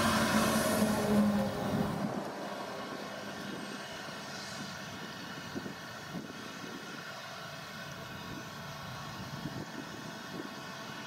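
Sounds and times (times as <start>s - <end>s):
combine harvester engine hum: 0.0s - 11.0s.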